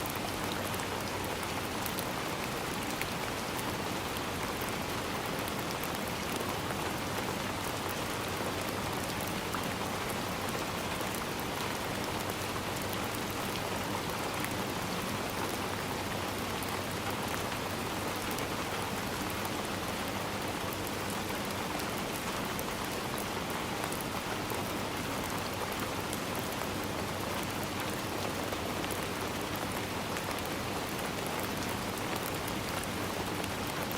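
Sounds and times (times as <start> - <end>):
rain pattering through trees: 0.0 - 33.9.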